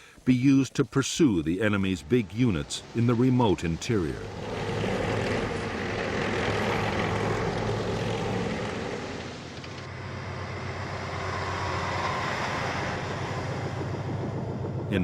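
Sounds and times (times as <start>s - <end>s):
propeller aircraft engine drone: 1.7s - 15.0s.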